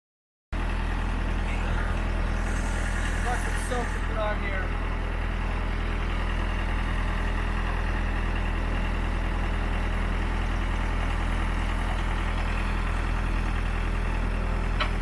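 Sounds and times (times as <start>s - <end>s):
backhoe engine idling: 0.6s - 15.0s.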